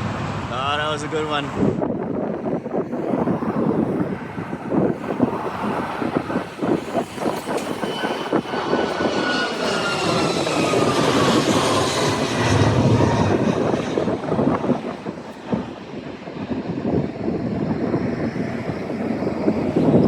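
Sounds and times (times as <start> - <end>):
jet airliner flying past: 0.0 - 20.0
wind buffeting microphone: 0.0 - 20.0.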